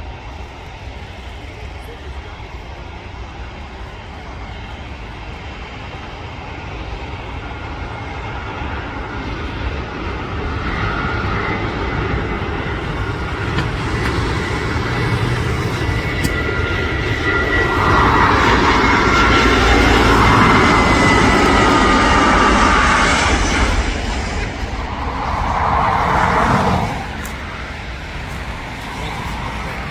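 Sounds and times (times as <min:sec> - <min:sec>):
jet engine whine: 0:00.0 - 0:29.9
jet engines rumbling: 0:00.0 - 0:29.9.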